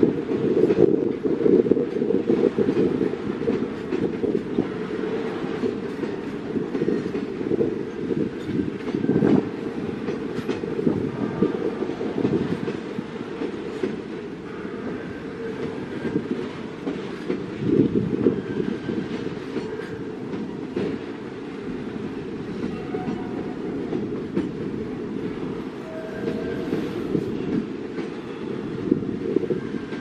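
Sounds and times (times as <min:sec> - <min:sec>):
train wheels clattering on rails: 0:00.0 - 0:30.0.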